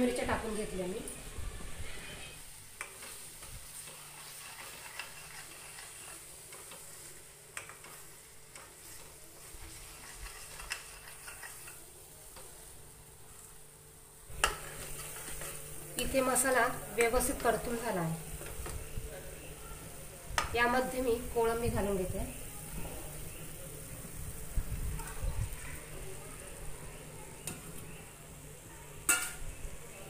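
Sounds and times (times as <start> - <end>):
paste frying in oil: 0.0 - 30.0.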